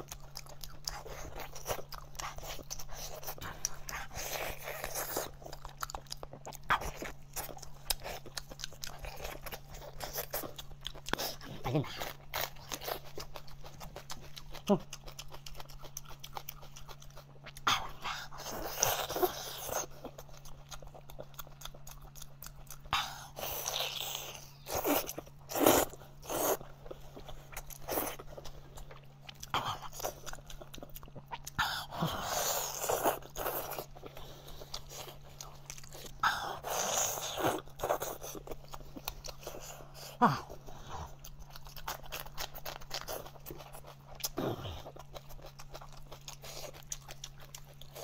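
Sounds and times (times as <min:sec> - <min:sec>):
faint low hum: 0:00.0 - 0:48.0
wet biting and chewing: 0:00.0 - 0:48.0.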